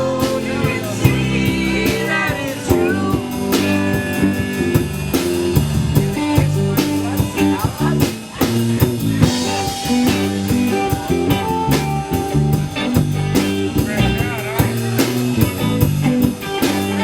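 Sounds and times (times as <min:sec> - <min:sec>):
bass guitar notes: 0:00.0 - 0:17.0
drum kit steady beat: 0:00.0 - 0:17.0
electric guitar: 0:00.0 - 0:17.0.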